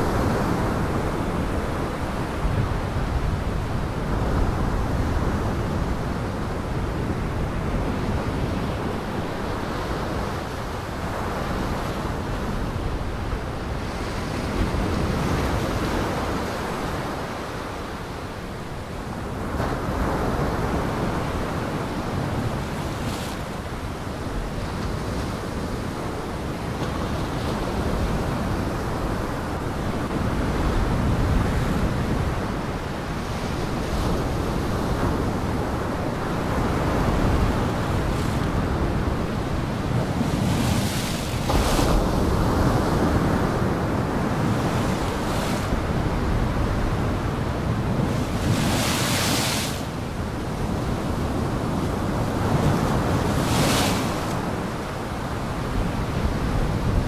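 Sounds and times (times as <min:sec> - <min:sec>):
heavy waves breaking: 0:00.0 - 0:57.0
wind: 0:00.0 - 0:57.0.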